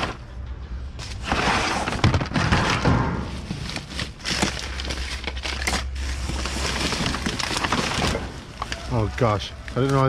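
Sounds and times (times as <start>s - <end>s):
objects clattering and scraping: 0.0s - 10.0s.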